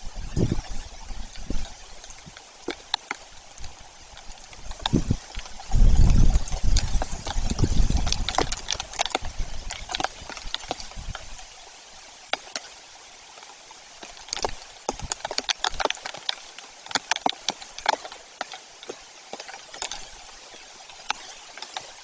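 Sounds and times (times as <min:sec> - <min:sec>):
raindrops ticking on camera: 0:00.0 - 0:22.0
steady hiss of rain: 0:00.0 - 0:22.0.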